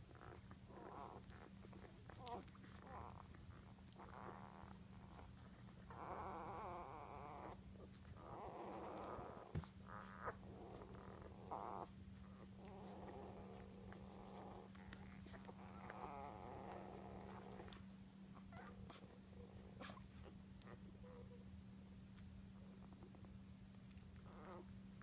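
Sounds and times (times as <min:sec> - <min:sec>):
puppies grunting faintly: 0:00.0 - 0:25.0.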